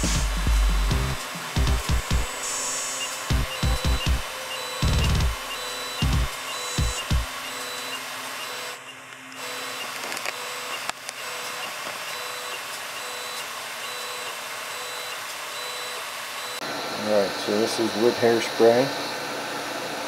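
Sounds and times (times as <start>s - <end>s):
stepper motors whining: 0.0s - 19.2s
printer fans hissing: 0.0s - 20.0s.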